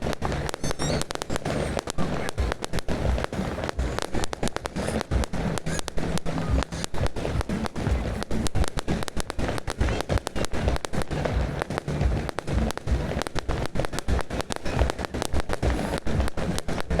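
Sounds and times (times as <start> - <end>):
fireworks cracks and pops: 0.0 - 17.0
low rumble of bangs: 0.0 - 17.0.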